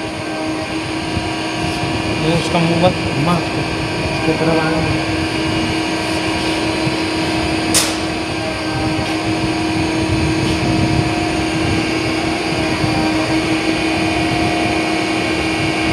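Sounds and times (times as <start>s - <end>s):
cooling fans and machinery hum: 0.0s - 15.9s.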